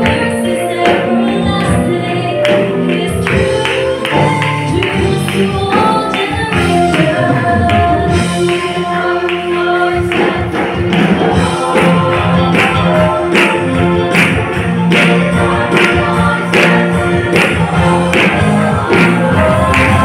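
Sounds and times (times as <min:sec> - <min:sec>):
choir singing gospel: 0:00.0 - 0:20.0
instrumental accompaniment: 0:00.0 - 0:20.0
percussion strikes: 0:00.0 - 0:20.0.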